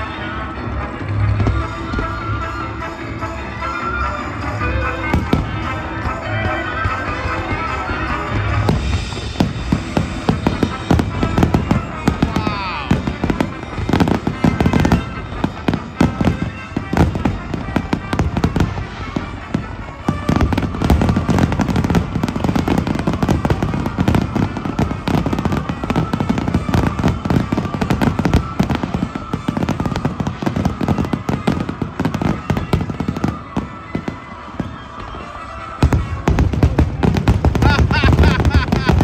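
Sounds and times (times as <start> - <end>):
fireworks launching and bursting: 0.0 - 39.0.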